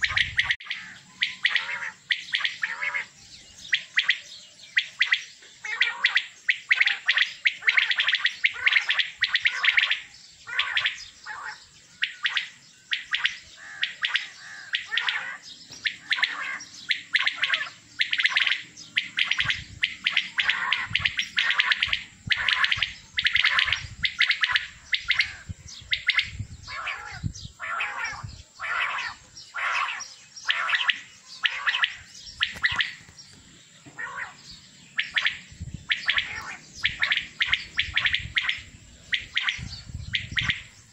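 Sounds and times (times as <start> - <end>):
quails calling: 0.0 - 40.9.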